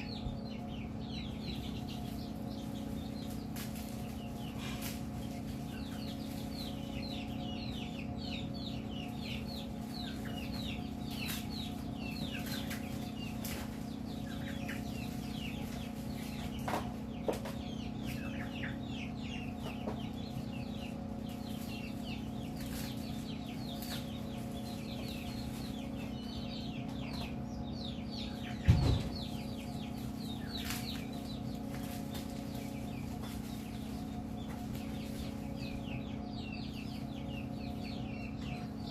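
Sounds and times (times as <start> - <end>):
chicks peeping: 0.0 - 38.9
steady low hum: 0.0 - 38.9.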